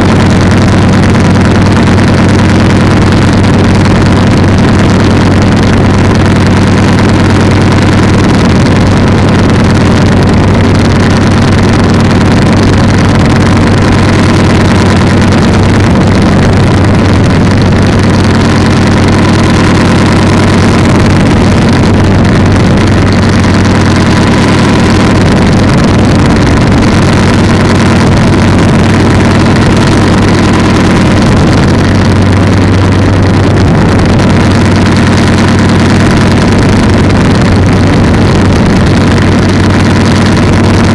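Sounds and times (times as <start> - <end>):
two-stroke engine running: 0.0 - 40.9.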